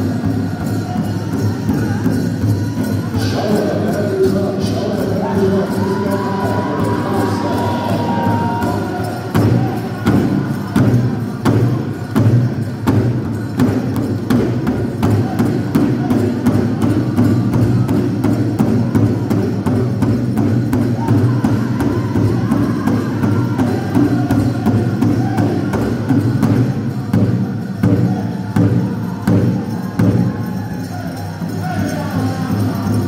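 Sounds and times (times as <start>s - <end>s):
group drumming steady beat: 0.0s - 30.6s.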